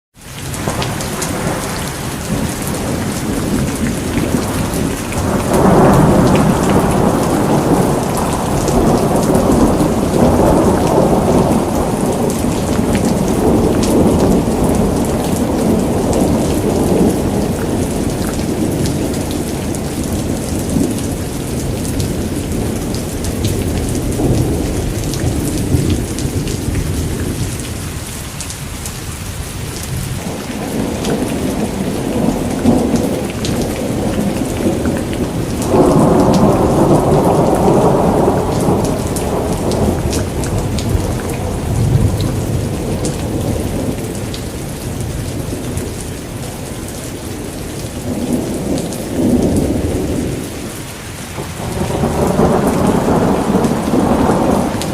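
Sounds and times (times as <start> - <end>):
rain pattering: 0.2 - 54.9
thunder rolling: 0.5 - 27.8, 29.9 - 46.6, 51.4 - 54.9.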